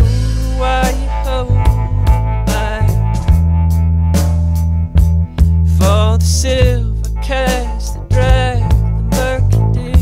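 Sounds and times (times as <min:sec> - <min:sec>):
person singing: 0:00.0 - 0:04.3, 0:05.4 - 0:10.0
steady bass: 0:00.0 - 0:10.0.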